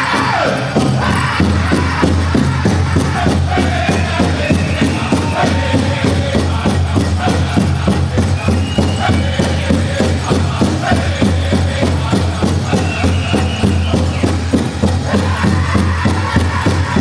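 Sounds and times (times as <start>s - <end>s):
drum group singing: 0.0s - 17.0s
fast beat on big drum: 0.0s - 17.0s.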